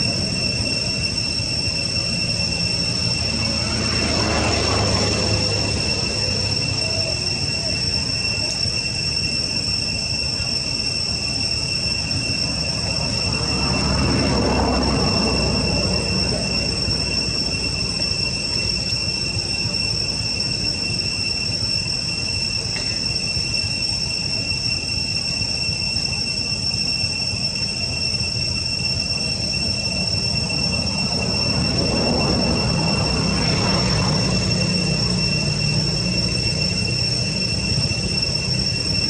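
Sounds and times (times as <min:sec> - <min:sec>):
cicadas droning: 0:00.0 - 0:39.0.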